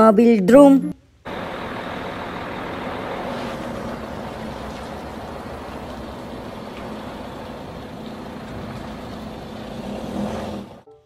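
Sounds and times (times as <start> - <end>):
truck diesel engine running: 1.3 - 10.9.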